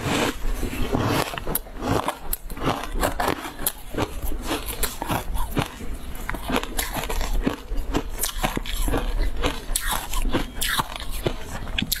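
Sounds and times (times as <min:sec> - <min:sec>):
crunching and chewing: 0:00.0 - 0:12.0.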